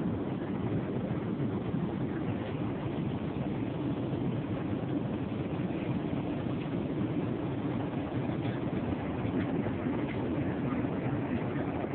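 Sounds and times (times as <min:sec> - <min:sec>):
airliner cabin drone: 0:00.0 - 0:11.9.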